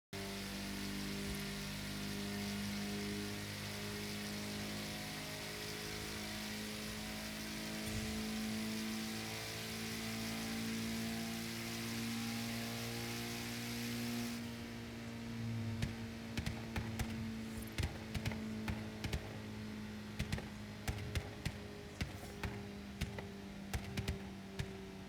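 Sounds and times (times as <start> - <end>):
car engine running: 0.2 - 11.4, 15.4 - 25.0.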